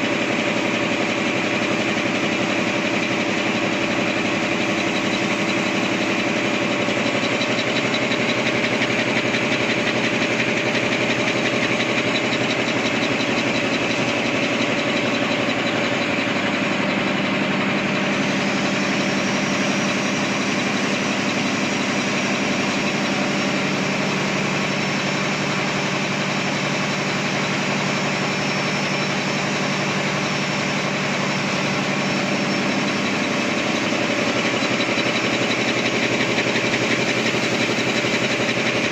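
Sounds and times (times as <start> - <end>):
machine clatter and hum: 0.0 - 38.9.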